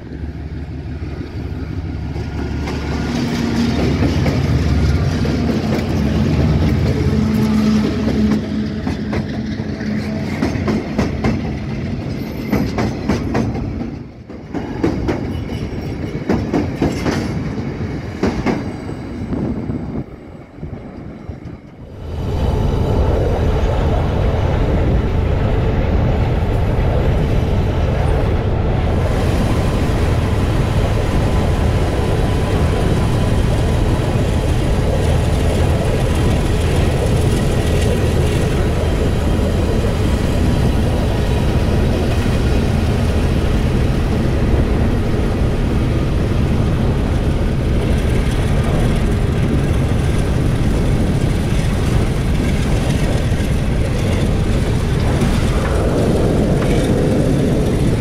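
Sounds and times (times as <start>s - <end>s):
diesel freight train: 0.0s - 58.0s.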